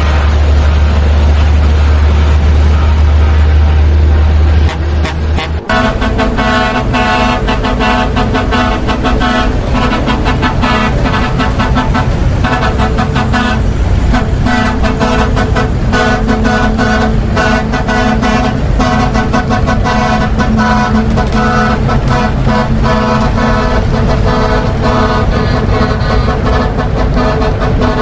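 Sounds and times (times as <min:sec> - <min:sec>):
truck horn honking: 0:00.0 - 0:28.0.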